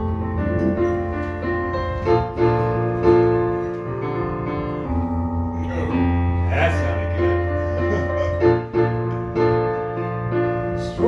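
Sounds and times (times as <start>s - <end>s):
electric piano playing chords: 0.0s - 11.0s.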